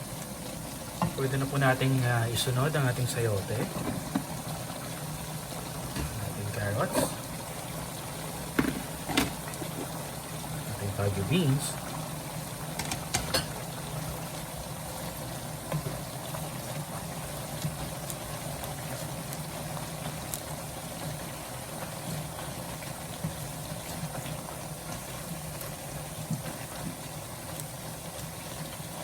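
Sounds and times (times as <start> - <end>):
broth bubbling in a pan: 0.0 - 29.0.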